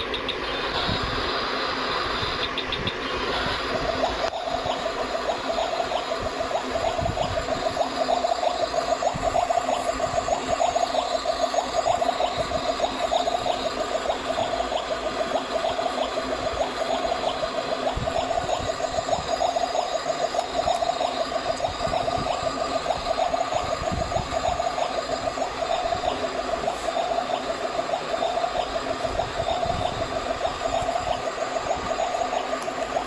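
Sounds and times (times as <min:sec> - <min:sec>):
toy stovetop bubbling sound effect: 0:02.4 - 0:33.0.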